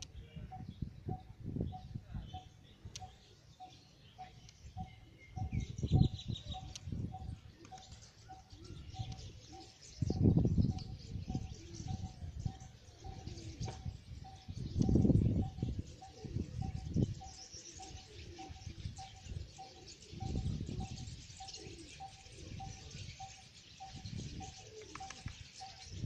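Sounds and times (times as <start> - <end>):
wind rumble on microphone: 0.0 - 3.1, 4.7 - 26.0
birds chirping and calling: 0.0 - 26.0.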